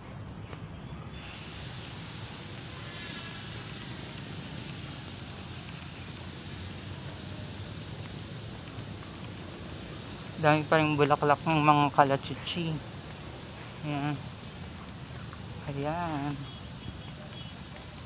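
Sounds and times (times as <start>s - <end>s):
background hiss and rumble: 0.0s - 18.0s
insect chirping: 0.0s - 18.0s.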